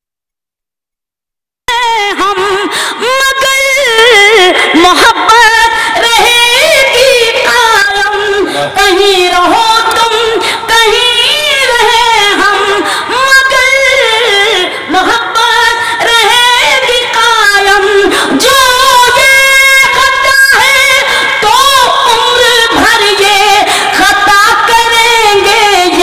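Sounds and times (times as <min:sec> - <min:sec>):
woman singing into a microphone: 0:01.7 - 0:26.0.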